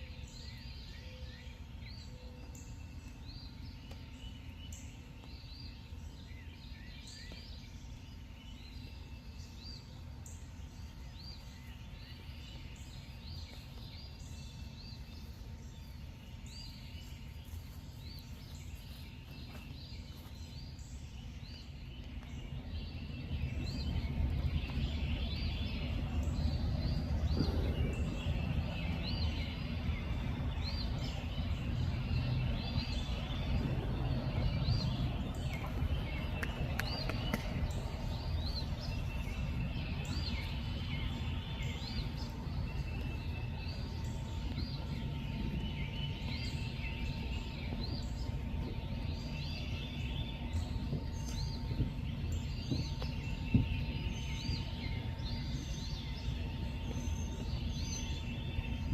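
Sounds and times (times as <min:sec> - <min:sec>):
faint steady hum: 0:00.0 - 0:58.9
steady low rumble: 0:02.7 - 0:58.9.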